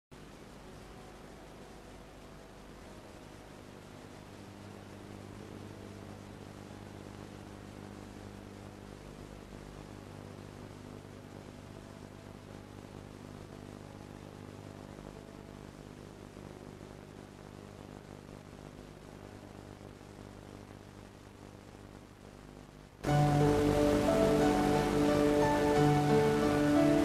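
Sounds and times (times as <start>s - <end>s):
low electrical hum: 0.1s - 27.0s
tape hiss: 0.1s - 27.0s.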